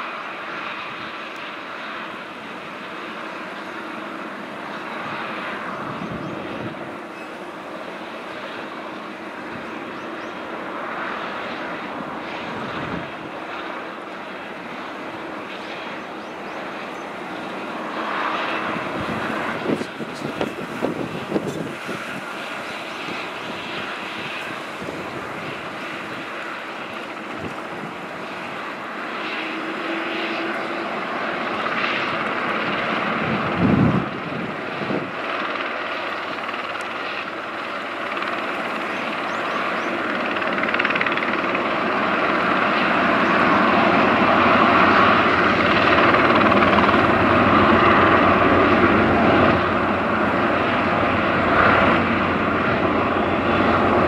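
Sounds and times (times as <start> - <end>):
helicopter running: 0.0 - 54.0.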